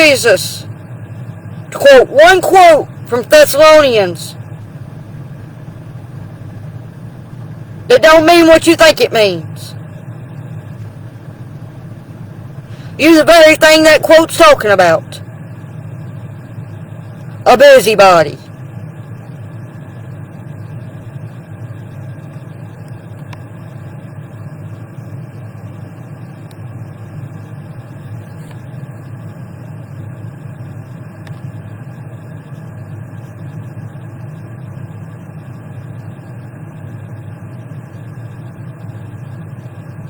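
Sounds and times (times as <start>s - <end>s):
low rumbling background noise: 0.0s - 40.0s.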